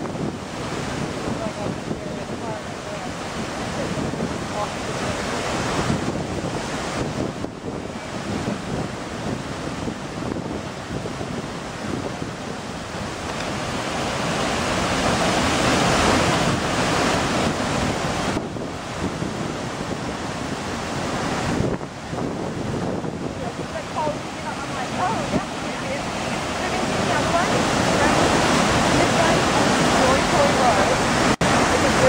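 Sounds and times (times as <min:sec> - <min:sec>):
waterfall rushing: 0:00.0 - 0:32.0
wind buffeting microphone: 0:00.0 - 0:32.0.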